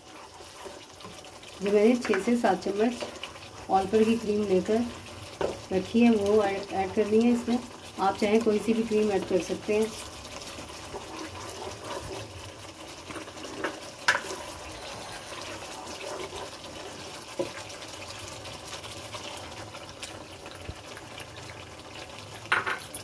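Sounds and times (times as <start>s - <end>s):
gravy bubbling and sizzling: 0.0s - 23.0s.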